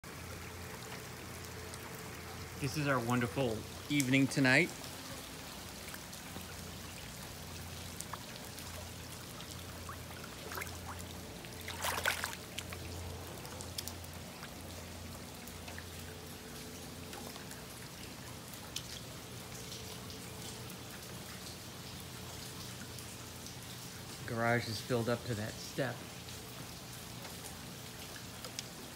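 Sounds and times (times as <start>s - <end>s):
rain falling: 0.0s - 28.9s
runoff water trickling and pouring: 0.0s - 28.9s
water drips: 0.0s - 28.9s.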